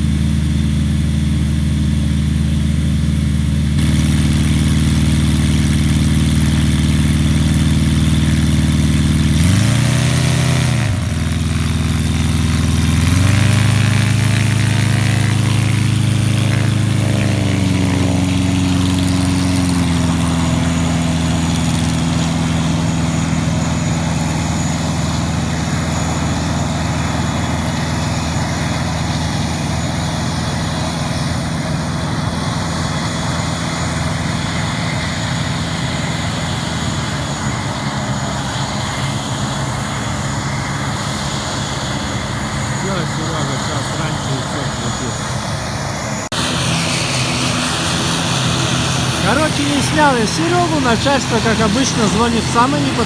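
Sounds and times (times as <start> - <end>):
light aircraft engine and propeller: 0.0 - 53.0.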